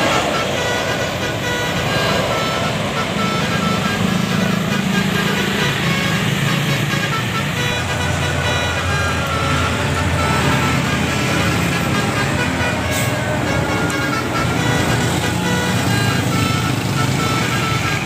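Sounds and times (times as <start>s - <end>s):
multi-tone bus horn tune: 0.0s - 18.0s.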